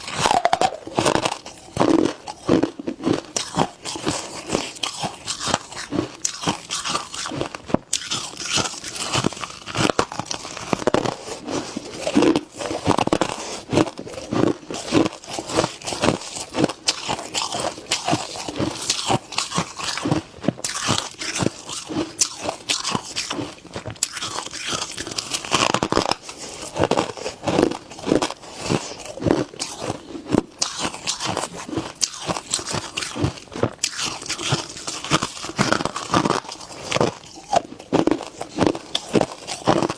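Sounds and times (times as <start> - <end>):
person chewing frost crunching: 0.0 - 39.9.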